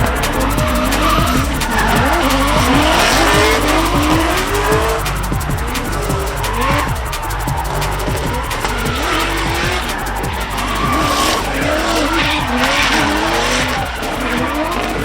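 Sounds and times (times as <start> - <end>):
tyre squeal and skidding: 0.0 - 5.0, 6.0 - 15.0
background music: 0.0 - 15.0
car engines revving: 0.0 - 15.0.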